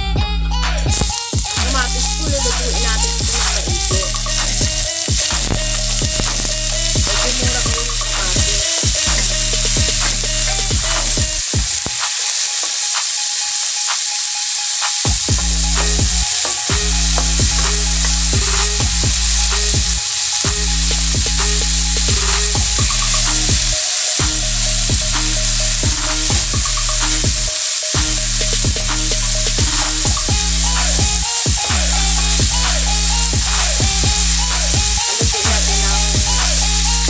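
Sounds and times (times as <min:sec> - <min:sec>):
background music with bass: 0:00.0 - 0:12.0, 0:15.0 - 0:37.0
vegetables sizzling in oil: 0:00.9 - 0:37.0.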